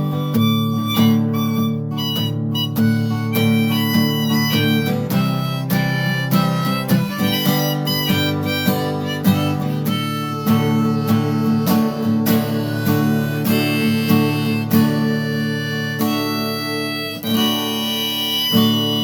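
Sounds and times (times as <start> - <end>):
acoustic guitar strumming: 0.0 - 19.0
harmonica playing: 0.0 - 19.0.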